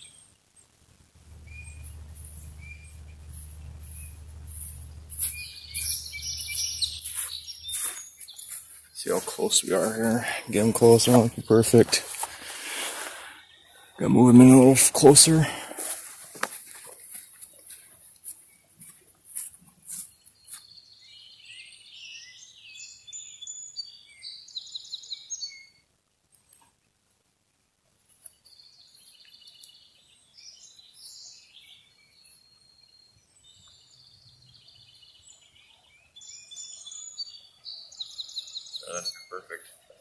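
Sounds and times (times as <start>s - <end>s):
songbirds trilling and chirping: 0.0s - 25.8s, 28.0s - 40.0s.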